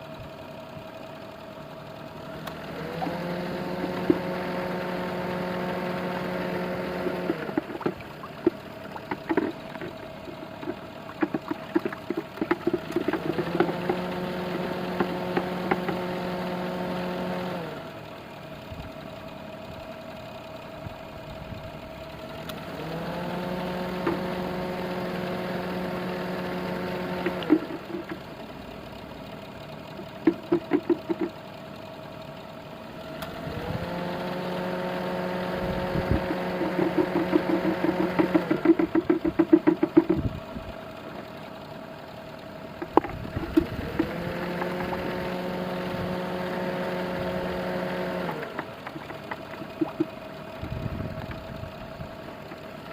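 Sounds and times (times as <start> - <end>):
compressor hum: 0.0 - 32.4, 33.2 - 52.9
car engine idling: 0.0 - 52.9.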